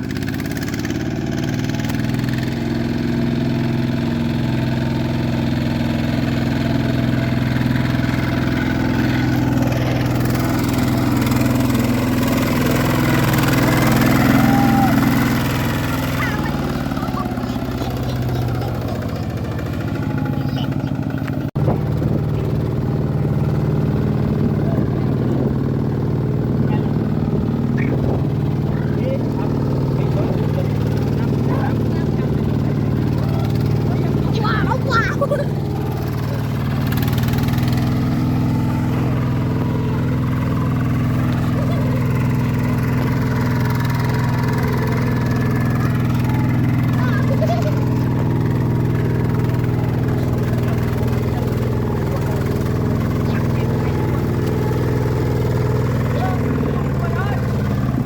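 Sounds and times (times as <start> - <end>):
tractor diesel engine chugging: 0.0 - 58.0.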